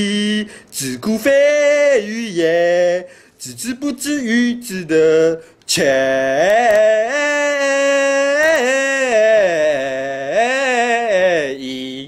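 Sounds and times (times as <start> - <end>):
person chanting: 0.0 - 12.0.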